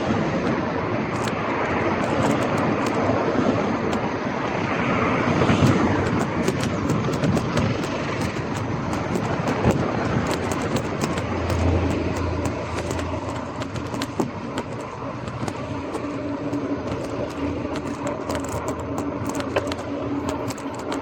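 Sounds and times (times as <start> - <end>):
vehicle engine hum: 0.0 - 21.0
bike tyre noise: 0.6 - 21.0
bike rattling clicks: 1.1 - 21.0.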